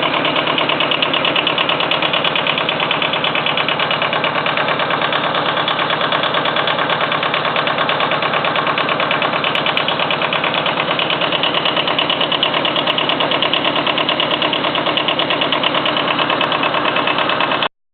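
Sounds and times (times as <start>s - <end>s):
tractor engine running: 0.0s - 17.7s.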